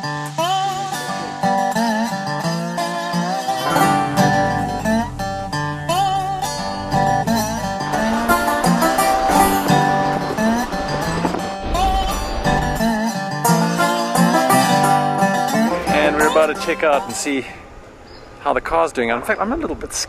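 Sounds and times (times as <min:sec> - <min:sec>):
plucked guitar with sliding notes: 0:00.0 - 0:17.4.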